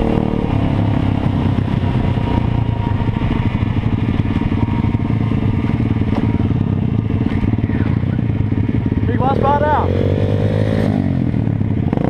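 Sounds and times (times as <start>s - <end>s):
moped engine running: 0.0s - 12.0s.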